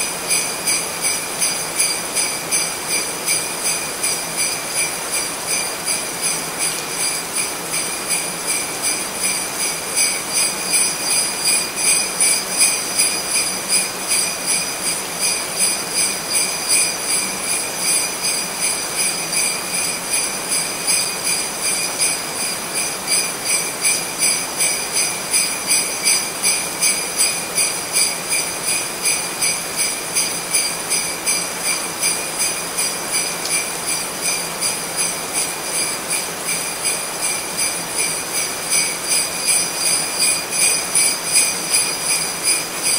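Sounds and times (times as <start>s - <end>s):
jingle bells shaken: 0.0s - 42.9s.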